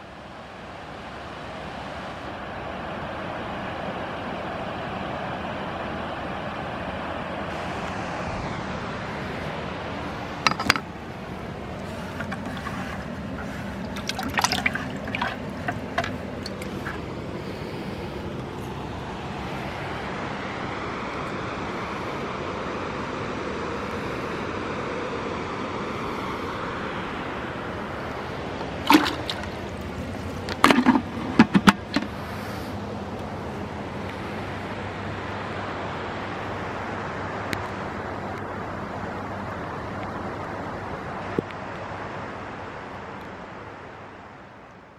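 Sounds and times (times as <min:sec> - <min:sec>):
river water rushing over dam: 0:00.0 - 0:39.8.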